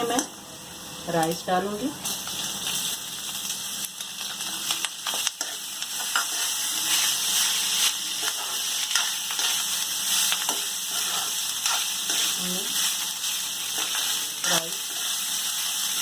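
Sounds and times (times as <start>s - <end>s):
rice sizzling in hot oil: 0.0s - 16.0s.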